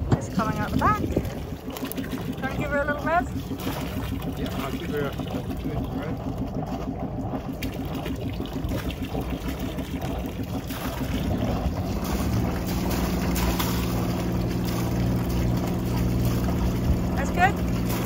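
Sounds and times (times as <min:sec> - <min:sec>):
cooling water splashing: 0:00.0 - 0:18.0
diesel engine idling and revving: 0:00.0 - 0:18.0.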